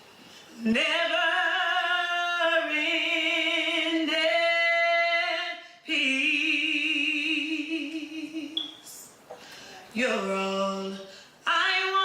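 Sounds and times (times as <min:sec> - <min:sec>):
woman singing gospel: 0:00.5 - 0:09.2, 0:09.8 - 0:12.0.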